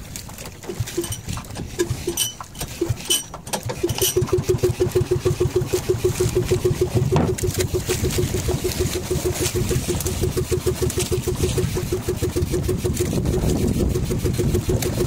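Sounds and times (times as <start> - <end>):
boat engine starting: 0.0 - 15.0.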